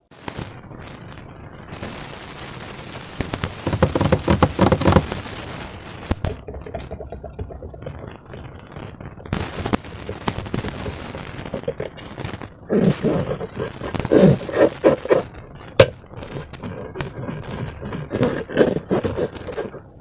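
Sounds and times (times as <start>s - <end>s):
slime crackling and popping: 1.8s - 20.0s.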